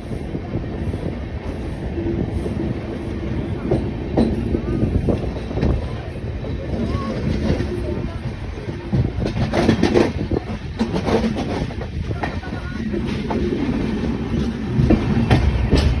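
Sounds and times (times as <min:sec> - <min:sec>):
train low running noise: 0:00.0 - 0:16.0
train wheels clicking over rail joints: 0:00.8 - 0:16.0.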